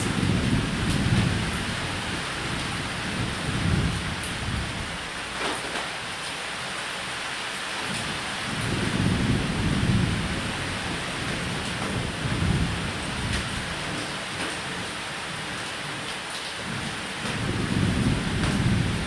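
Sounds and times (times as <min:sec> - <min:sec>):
low rolling thunder: 0:00.0 - 0:05.4, 0:07.9 - 0:15.5, 0:16.6 - 0:19.0
heavy rain on a roof: 0:00.0 - 0:19.0.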